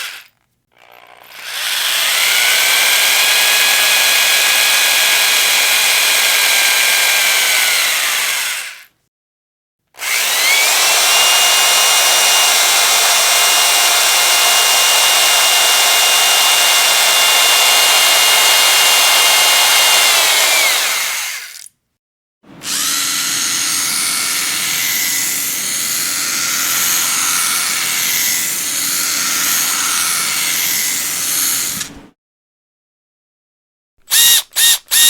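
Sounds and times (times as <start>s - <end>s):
electric power drill running: 0.0s - 8.9s, 10.0s - 21.7s, 22.5s - 32.0s, 34.1s - 35.0s.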